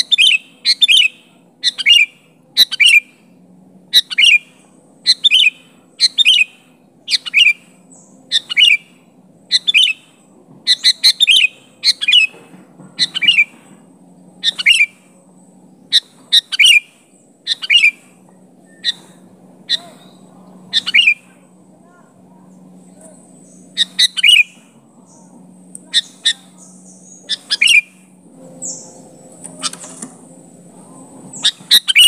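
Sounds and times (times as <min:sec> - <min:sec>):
bird chirping: 0:00.0 - 0:03.2, 0:03.9 - 0:12.4, 0:13.0 - 0:13.6, 0:14.2 - 0:21.4, 0:22.5 - 0:32.0.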